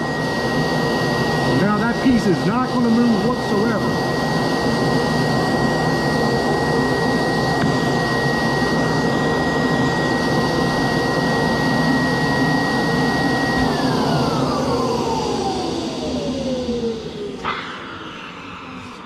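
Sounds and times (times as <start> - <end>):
vacuum pump drone with high whine: 0.0 - 19.0.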